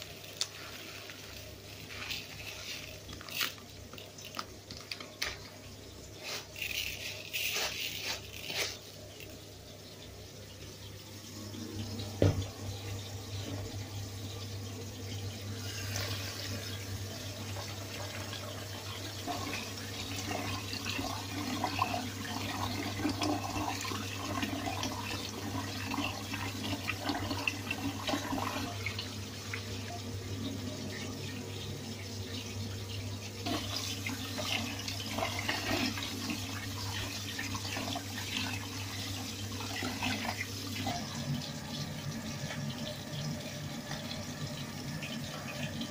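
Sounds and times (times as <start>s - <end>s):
tap water running into bowl: 0.0s - 45.9s.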